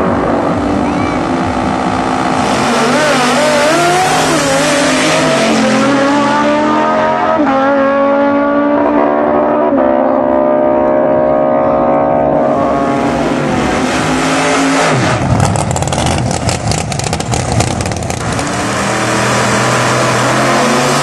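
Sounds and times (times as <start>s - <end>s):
drag racing engines at full throttle: 0.0s - 21.0s.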